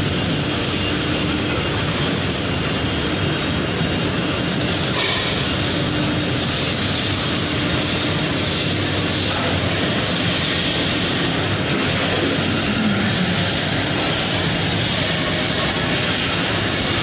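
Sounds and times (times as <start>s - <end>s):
industrial furnace machinery din: 0.0s - 17.0s.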